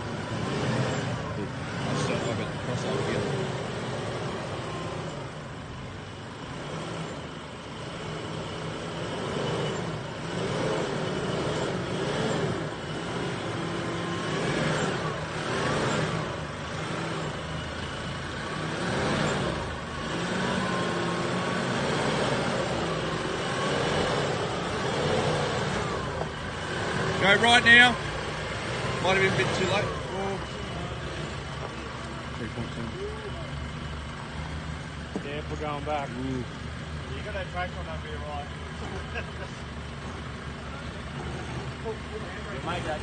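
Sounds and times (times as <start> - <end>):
engine revving under load: 0.0 - 43.0.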